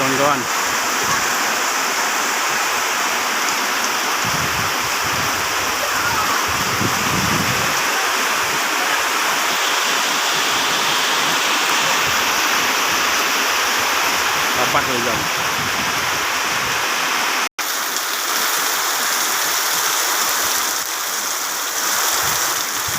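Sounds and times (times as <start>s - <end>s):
heavy rain pouring: 0.0s - 22.9s.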